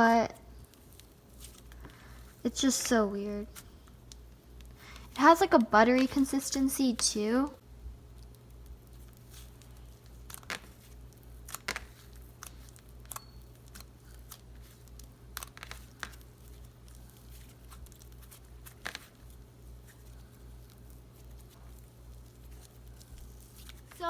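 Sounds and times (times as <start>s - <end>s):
hands squishing sticky slime: 0.0s - 7.5s, 8.1s - 24.0s.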